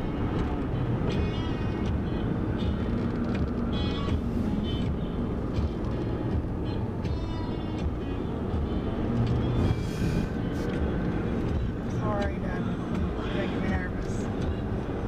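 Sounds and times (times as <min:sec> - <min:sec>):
vehicle road noise: 0:00.0 - 0:15.0.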